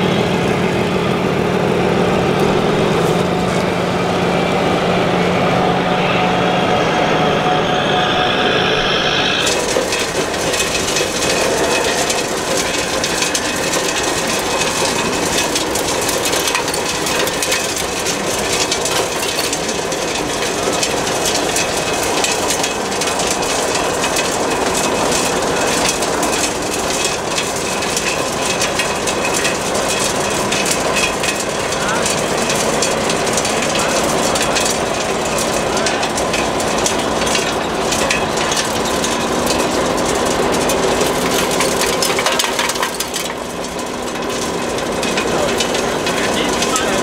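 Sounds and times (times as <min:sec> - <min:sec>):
hydraulics running: 0:00.0 - 0:47.0
noisy background: 0:00.0 - 0:47.0
crunching and clicking of dirt: 0:09.2 - 0:47.0.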